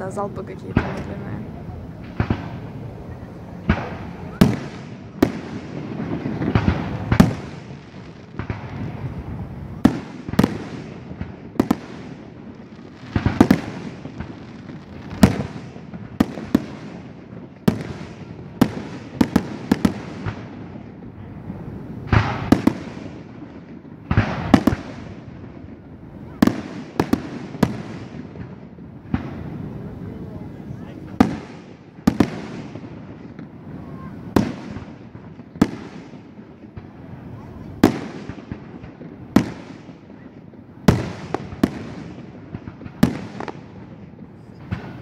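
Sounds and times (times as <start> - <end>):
fireworks bangs with echo: 0.0 - 45.0.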